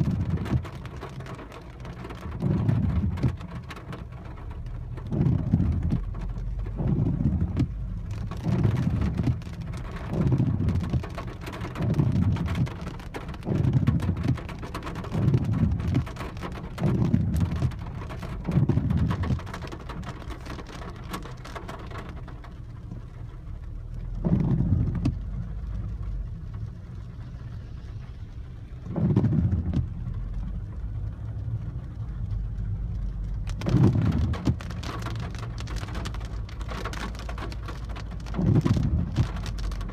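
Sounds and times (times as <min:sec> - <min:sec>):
engine and road hum: 0:00.0 - 0:39.9
rain on car: 0:00.0 - 0:39.9
windshield wipers swishing: 0:00.0 - 0:39.9.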